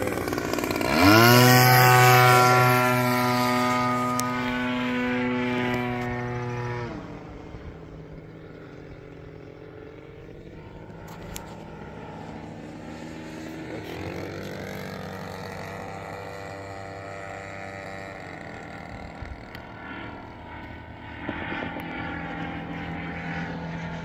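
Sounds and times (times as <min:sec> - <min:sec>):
model airplane engine buzzing: 0:00.0 - 0:24.0.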